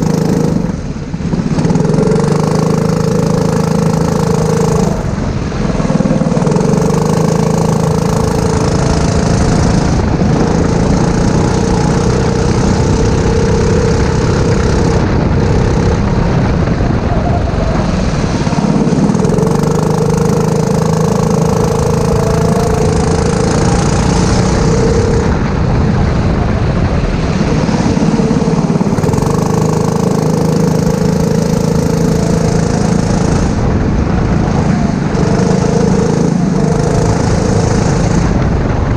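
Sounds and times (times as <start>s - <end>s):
racing kart engine revving: 0.0s - 38.9s.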